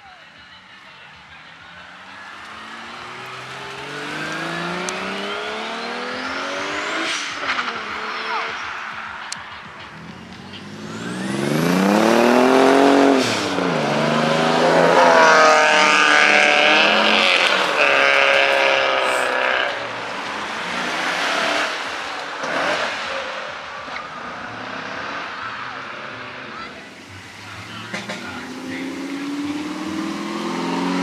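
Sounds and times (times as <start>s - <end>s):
car engine revving: 0.7s - 31.0s.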